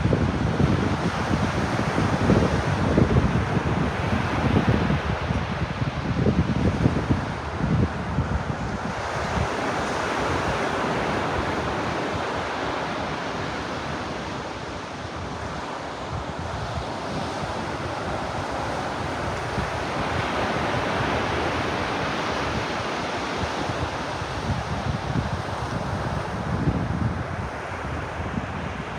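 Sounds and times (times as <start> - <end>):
ocean surf washing onto beach: 0.0 - 28.9
wind buffeting microphone: 0.0 - 28.9.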